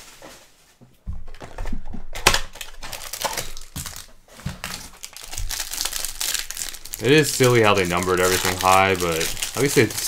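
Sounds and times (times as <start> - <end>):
plastic pack crinkling and rustling: 1.3 - 10.0.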